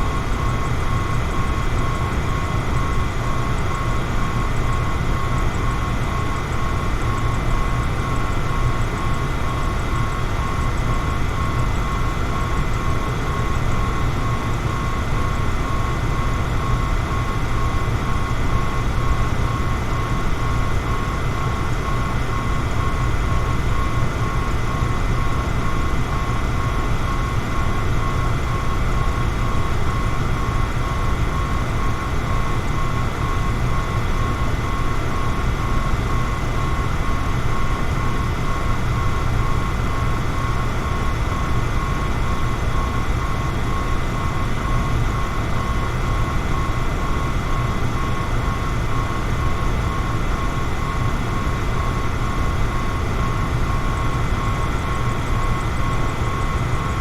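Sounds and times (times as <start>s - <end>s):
electric fan whirring: 0.0s - 57.0s.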